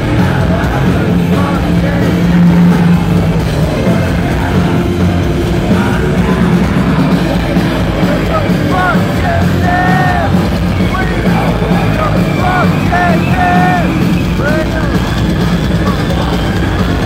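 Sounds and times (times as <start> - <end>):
metal band playing live: 0.0 - 17.0
singer shouting and singing: 0.0 - 17.0.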